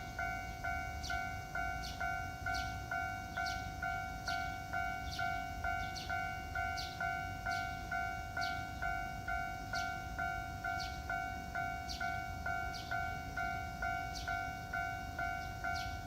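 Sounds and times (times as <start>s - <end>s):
railroad crossing bell ringing: 0.0s - 16.0s.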